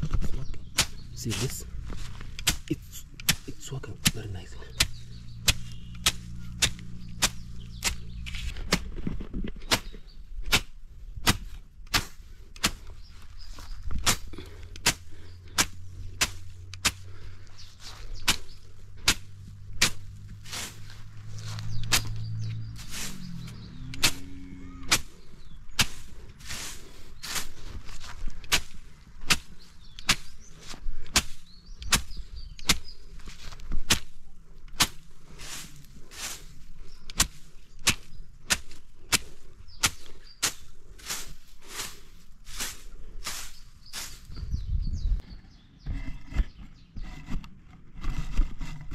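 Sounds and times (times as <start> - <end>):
blade swishing through grass: 0.7 - 9.0, 9.6 - 44.6.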